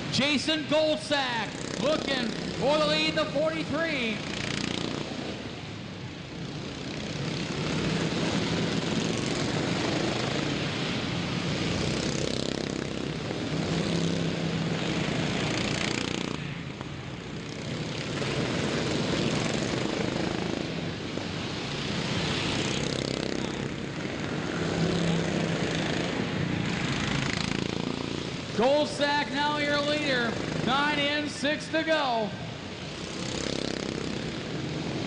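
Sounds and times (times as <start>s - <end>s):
lawn mower engines droning: 0.0s - 35.0s.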